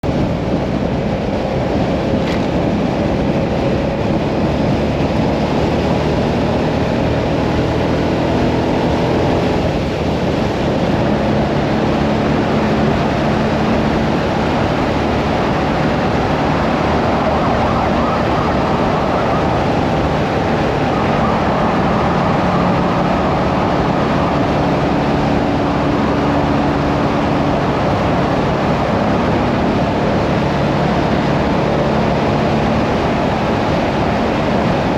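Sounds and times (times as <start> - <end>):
wind and road noise: 0.0 - 34.9.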